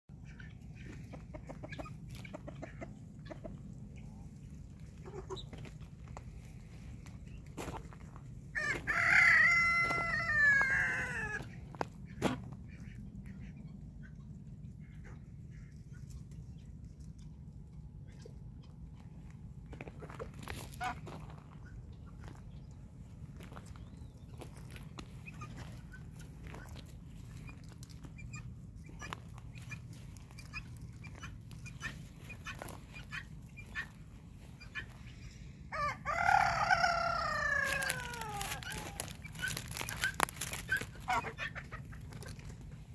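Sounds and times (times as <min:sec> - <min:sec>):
low steady rumble: 0:00.1 - 0:42.9
poultry clucking: 0:00.1 - 0:42.9.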